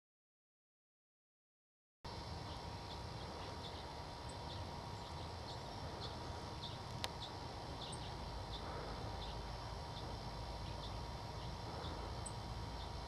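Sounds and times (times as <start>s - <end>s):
low background hum: 2.1s - 13.0s
songbird high call notes: 2.4s - 13.0s.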